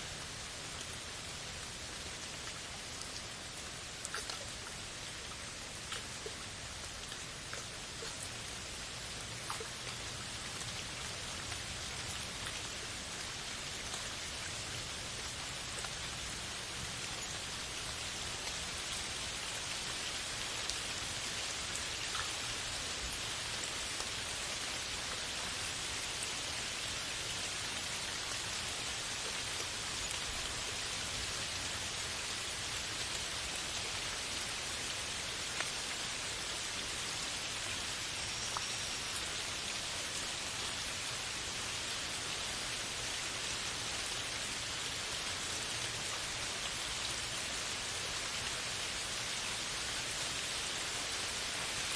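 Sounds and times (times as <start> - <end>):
rain on leaves: 0.0 - 51.9.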